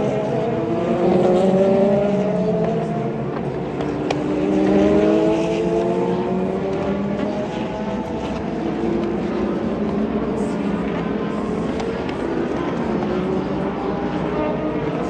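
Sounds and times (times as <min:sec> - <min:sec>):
race car engines accelerating past: 0:00.0 - 0:15.0.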